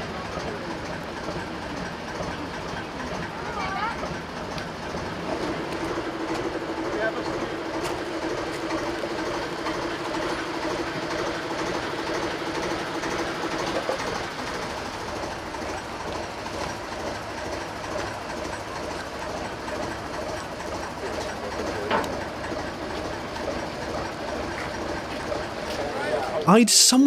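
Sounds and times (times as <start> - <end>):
diesel engine chugging at idle: 0.0 - 27.0.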